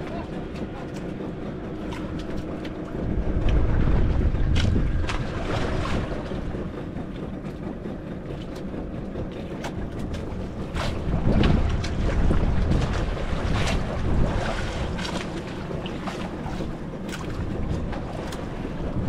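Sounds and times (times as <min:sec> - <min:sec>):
water washing against boat: 0:00.0 - 0:19.0
wind buffeting microphone: 0:00.0 - 0:19.0.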